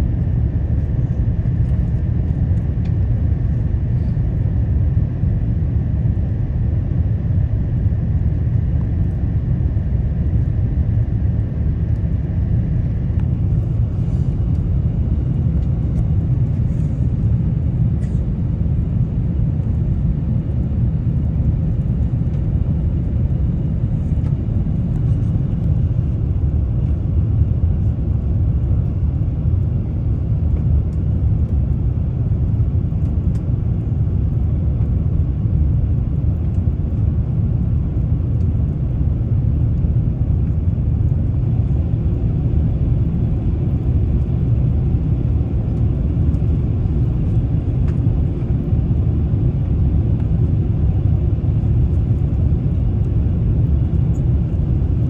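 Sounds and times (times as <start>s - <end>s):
airliner engines rumbling in cabin: 0.0s - 55.0s.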